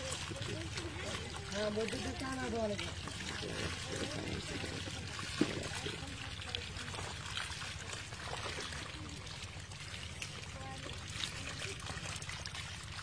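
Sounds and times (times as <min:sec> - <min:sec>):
muddy water pouring: 0:00.0 - 0:13.0.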